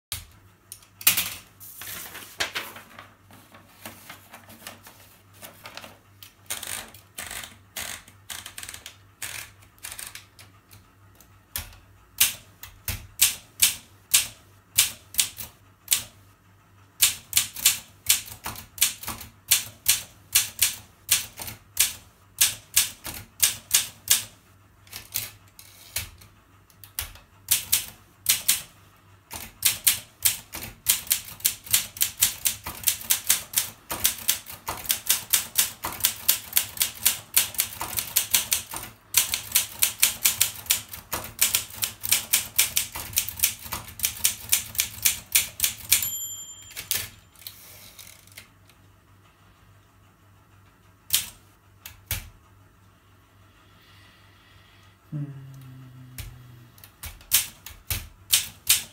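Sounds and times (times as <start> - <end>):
manual typewriter typing: 3.8 - 16.2, 16.9 - 48.5, 51.1 - 52.4, 56.8 - 58.9.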